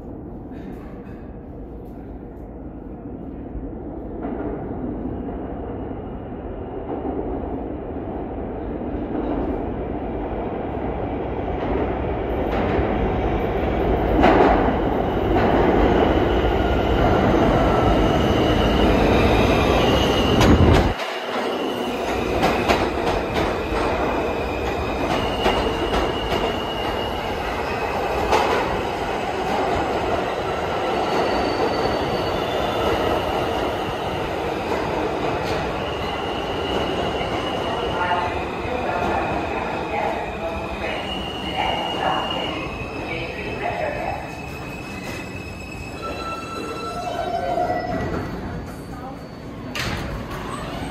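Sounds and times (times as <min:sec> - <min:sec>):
subway train rumble: 0:00.0 - 0:50.9.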